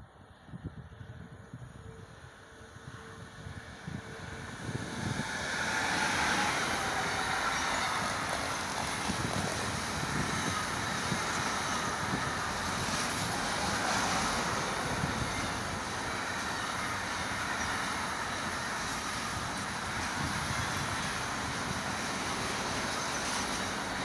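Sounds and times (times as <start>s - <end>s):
freight train passing: 0.0s - 24.0s.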